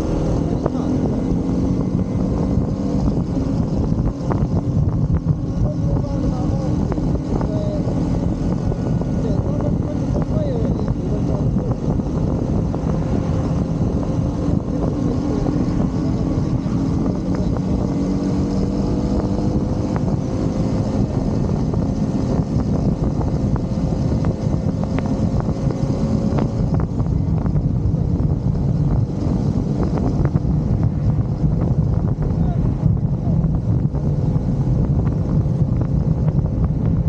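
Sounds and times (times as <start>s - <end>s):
motorcycle engine cruising: 0.0s - 37.0s
wind noise: 0.0s - 37.0s.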